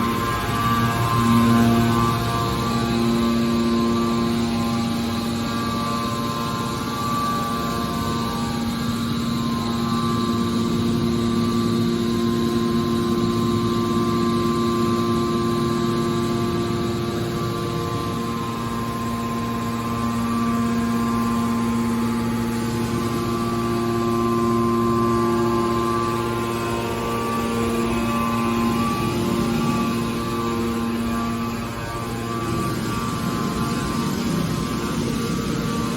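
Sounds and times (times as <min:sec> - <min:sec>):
hydraulic machine hum and whine: 0:00.0 - 0:35.9.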